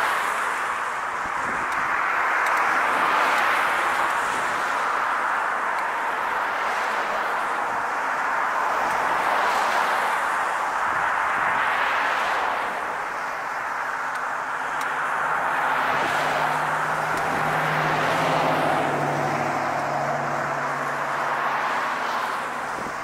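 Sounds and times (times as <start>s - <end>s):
cars passing: 0.0s - 23.0s
vehicle engine hum: 0.1s - 23.0s.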